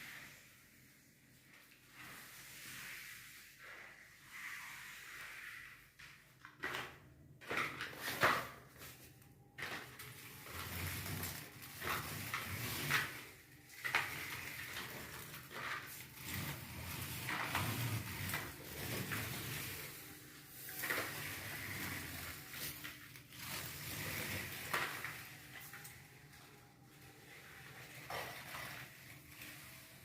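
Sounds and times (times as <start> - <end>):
objects being handled and moved: 0.0 - 30.0.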